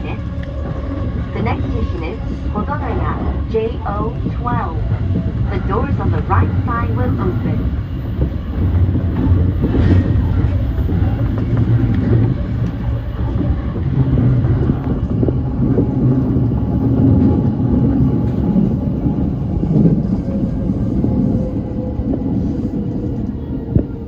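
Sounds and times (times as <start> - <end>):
faint train equipment hum: 0.0 - 24.0
train wheels rumbling on rail: 0.0 - 24.0.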